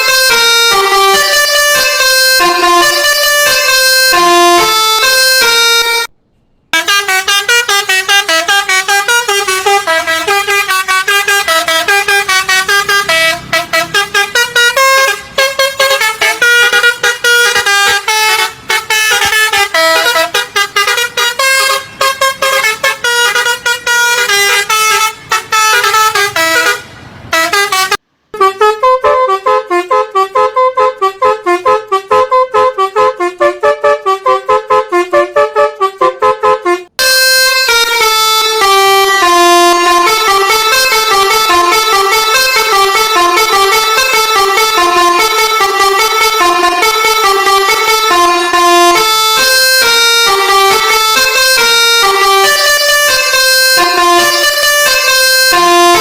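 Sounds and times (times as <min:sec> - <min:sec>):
bus multi-tone horn playing tunes: 0:00.0 - 0:06.2, 0:06.8 - 0:56.0.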